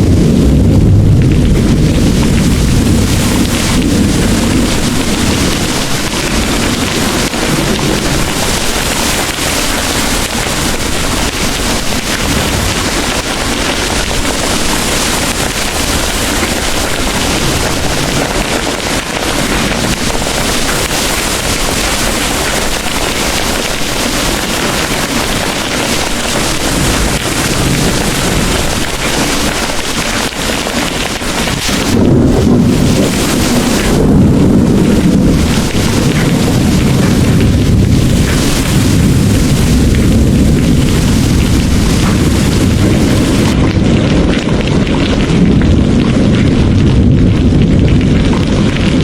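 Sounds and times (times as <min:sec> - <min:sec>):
deep thunder rumble: 0:00.0 - 0:49.0
heavy rain pouring: 0:00.0 - 0:49.0.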